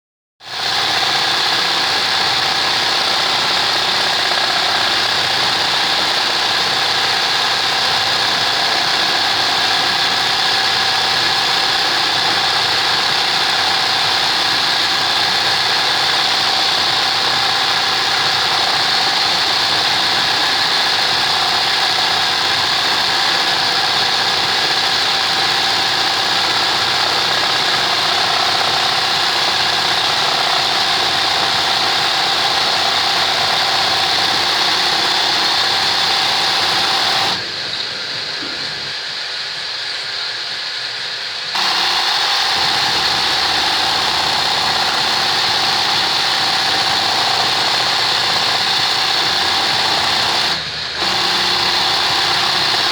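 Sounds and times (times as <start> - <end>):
sewing machine running fast: 0.4 - 37.8, 41.5 - 52.9.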